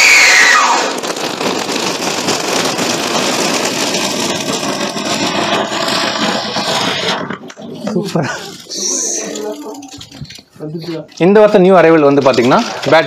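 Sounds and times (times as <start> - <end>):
firecracker hissing crackle: 0.0 - 13.0.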